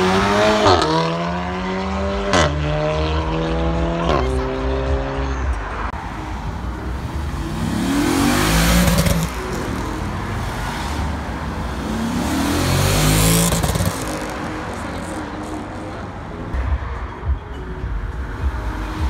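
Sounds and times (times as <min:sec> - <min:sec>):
cars accelerating past: 0:00.0 - 0:17.1.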